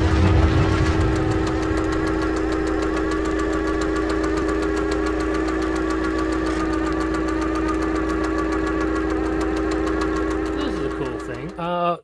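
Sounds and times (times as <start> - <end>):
rapid even ticking: 0.0 - 11.8
mechanical hum: 0.0 - 12.0.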